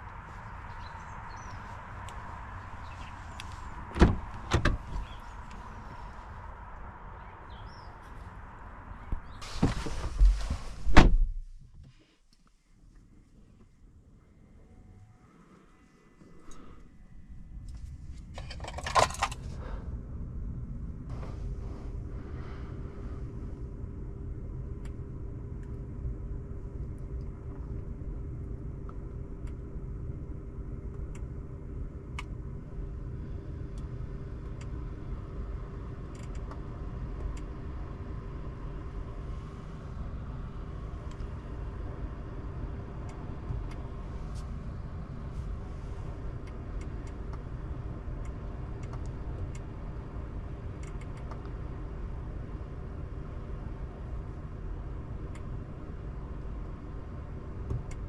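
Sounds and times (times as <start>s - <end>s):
constant hum: 0.0s - 58.0s
road and tyre rumble: 0.0s - 58.0s.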